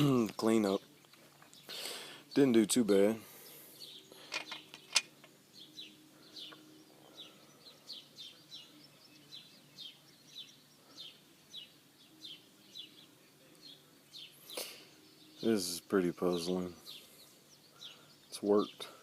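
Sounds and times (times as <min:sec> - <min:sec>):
faint outdoor background noise: 0:00.0 - 0:19.0
songbird chirping: 0:00.0 - 0:19.0.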